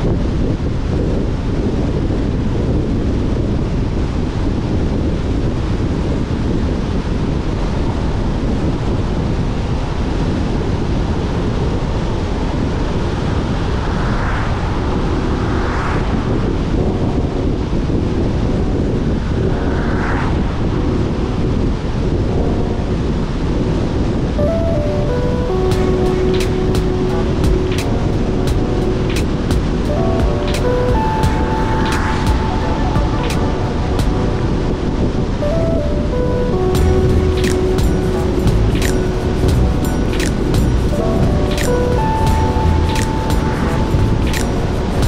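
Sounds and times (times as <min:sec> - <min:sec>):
wind rushing: 0:00.0 - 0:45.0.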